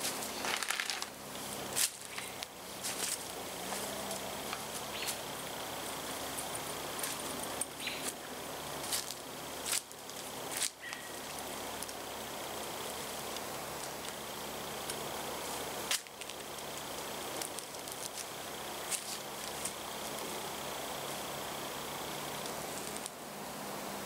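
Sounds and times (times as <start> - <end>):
gear clicking and rustling: 0.0 - 23.2
outdoor background hiss: 0.0 - 24.0.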